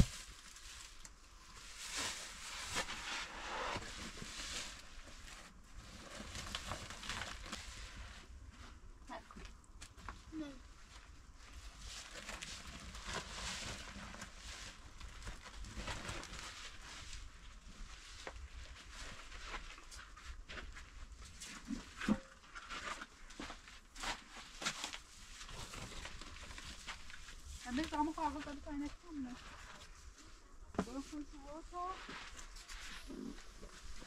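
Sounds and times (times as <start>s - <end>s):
paper sheet rustling and crinkling: 0.0s - 8.4s, 9.9s - 34.0s.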